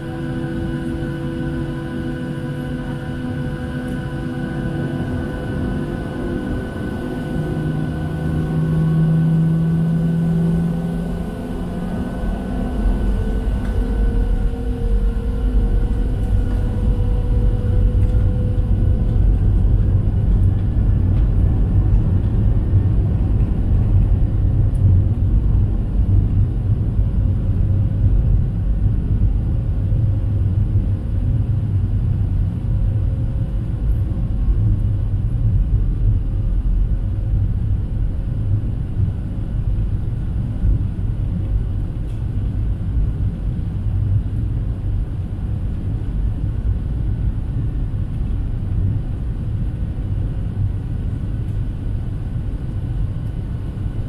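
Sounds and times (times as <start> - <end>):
airplane cabin rumble: 0.0 - 54.0
faint steady hum: 0.0 - 54.0.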